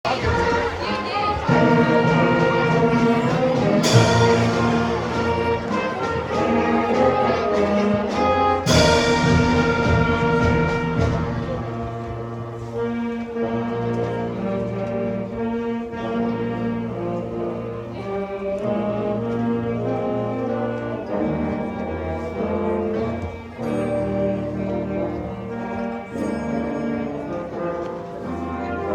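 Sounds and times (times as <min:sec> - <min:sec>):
brass band playing slow chords: 0:00.0 - 0:28.9.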